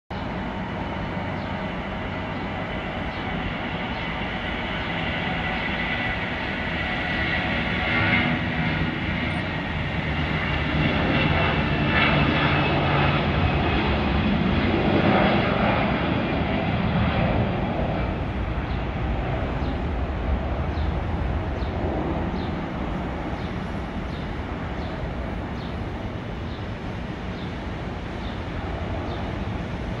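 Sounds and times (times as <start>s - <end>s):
jet engines at takeoff: 0.1s - 30.0s.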